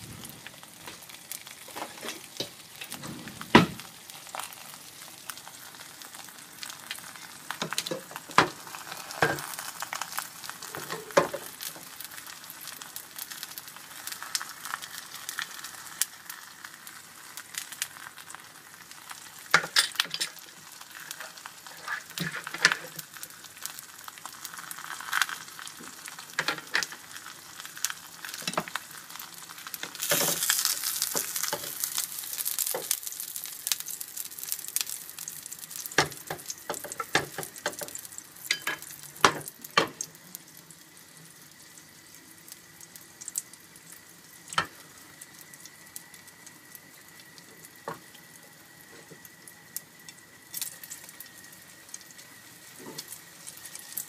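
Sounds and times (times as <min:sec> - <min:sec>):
eggs sizzling in a pan: 0:00.0 - 0:54.0.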